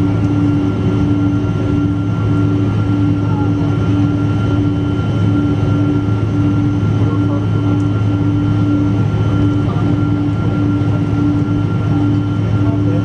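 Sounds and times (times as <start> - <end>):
aircraft cabin engine drone: 0.0 - 13.0.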